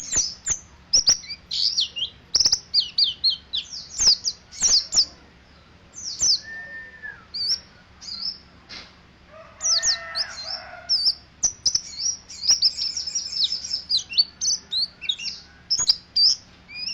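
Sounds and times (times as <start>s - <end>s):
bird chirping and twittering: 0.0s - 16.9s.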